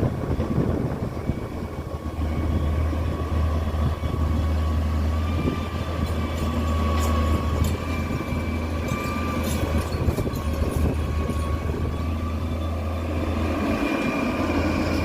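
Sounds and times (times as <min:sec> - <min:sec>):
machine engine humming: 0:00.0 - 0:15.0.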